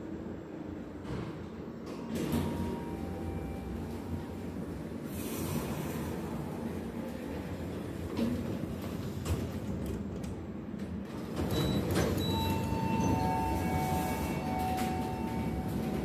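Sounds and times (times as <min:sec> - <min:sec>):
elevator low rumble: 0:00.0 - 0:16.0.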